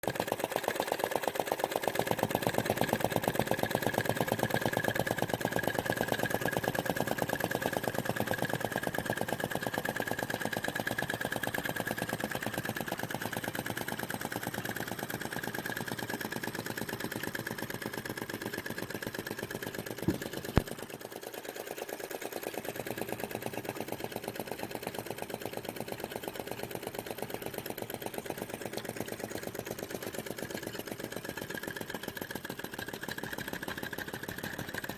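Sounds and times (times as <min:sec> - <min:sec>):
model engine clacking: 0:00.0 - 0:34.9.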